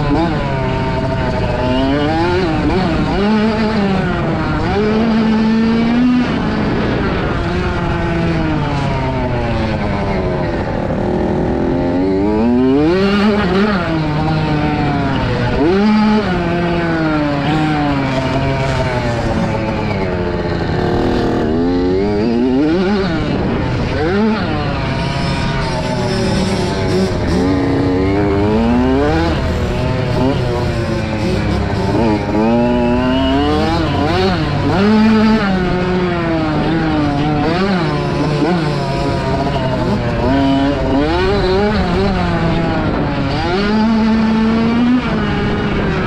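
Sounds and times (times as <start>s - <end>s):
motocross bike engines revving: 0.0s - 46.0s.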